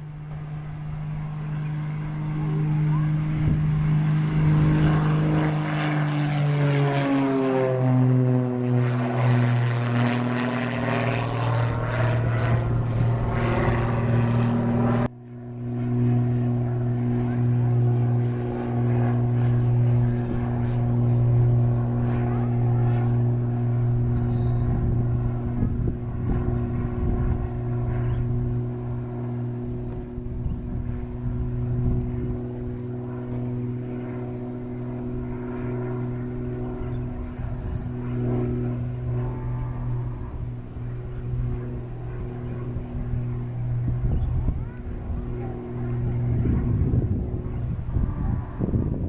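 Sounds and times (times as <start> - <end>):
steady engine hum: 0.0 - 49.0
uneven low rumbling: 0.0 - 49.0.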